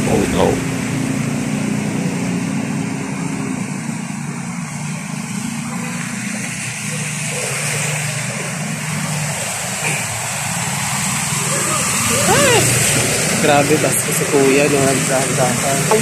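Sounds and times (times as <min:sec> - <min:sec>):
motorcycle engines running: 0:00.0 - 0:16.0
water washing: 0:00.0 - 0:16.0.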